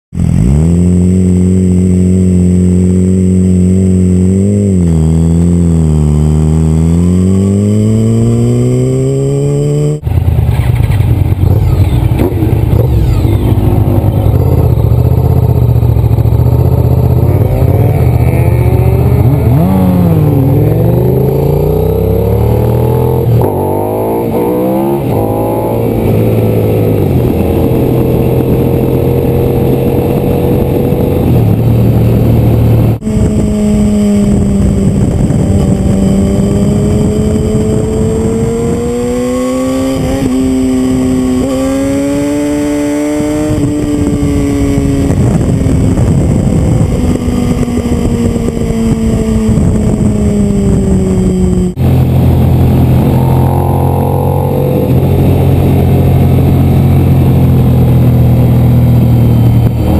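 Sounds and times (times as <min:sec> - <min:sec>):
motorcycle engines: 0:00.2 - 0:59.9.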